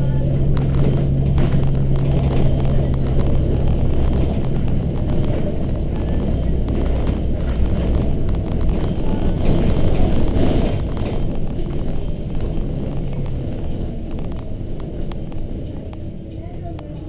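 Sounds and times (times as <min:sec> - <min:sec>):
bus diesel engine: 0:00.0 - 0:17.0
road noise: 0:00.0 - 0:17.0.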